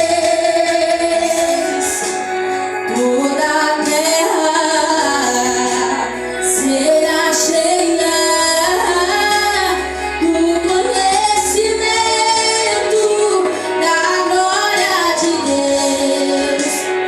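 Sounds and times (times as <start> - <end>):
instrumental accompaniment: 0.0 - 17.0
woman singing: 0.0 - 17.0.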